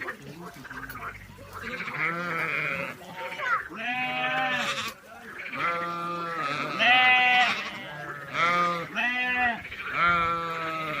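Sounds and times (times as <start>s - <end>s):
sheep and lambs bleating: 0.0s - 11.0s.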